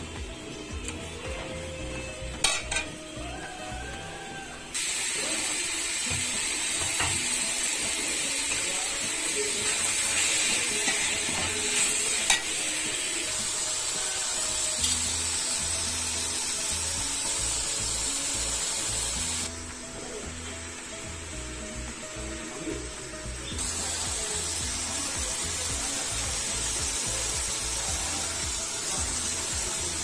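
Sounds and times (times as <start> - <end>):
background music: 0.0 - 30.0
vegetables sizzling in oil: 4.7 - 30.0.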